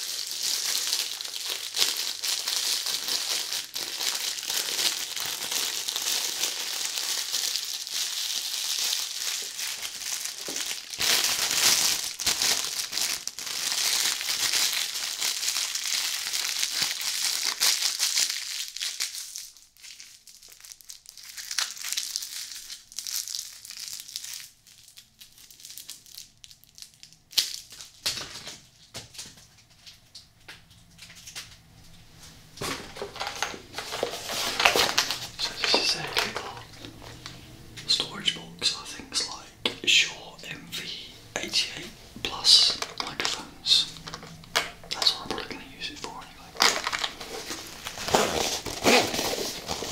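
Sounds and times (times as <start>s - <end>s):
plastic bag crinkling: 0.0s - 30.2s, 32.6s - 49.9s.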